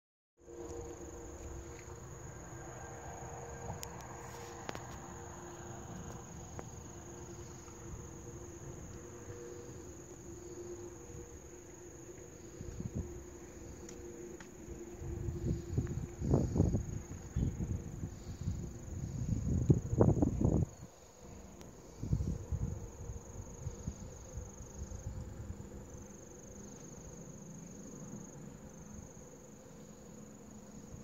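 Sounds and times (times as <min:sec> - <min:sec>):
low rumbling noise: 0:00.4 - 0:26.4
insects trilling: 0:00.4 - 0:31.0.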